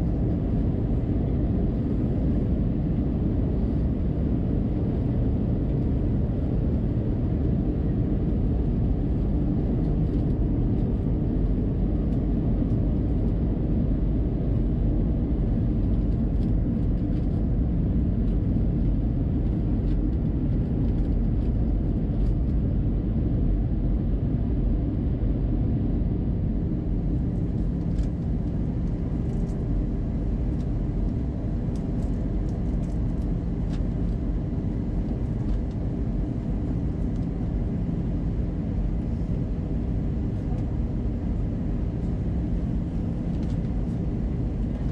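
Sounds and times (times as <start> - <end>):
aircraft cabin rumble: 0.0 - 44.9.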